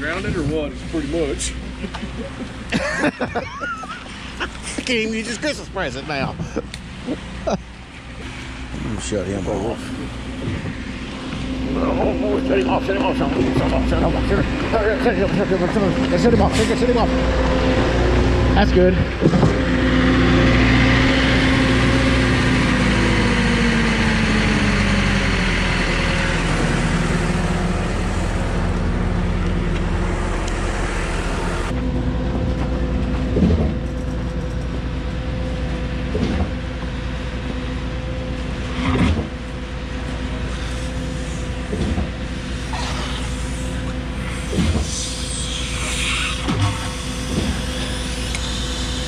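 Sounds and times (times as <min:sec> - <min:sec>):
heavy engine running: 0:00.0 - 0:49.0.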